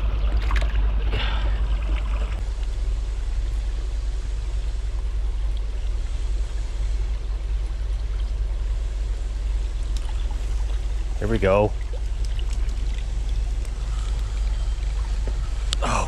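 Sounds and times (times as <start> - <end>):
creek water running: 0.0 - 16.0
strong low rumble: 0.0 - 16.0.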